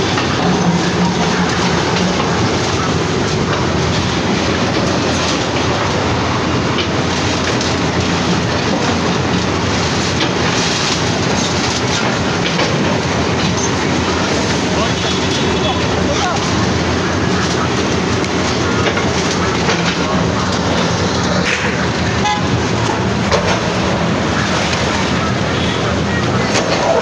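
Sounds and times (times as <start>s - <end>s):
heavy machinery clattering: 0.0s - 27.0s.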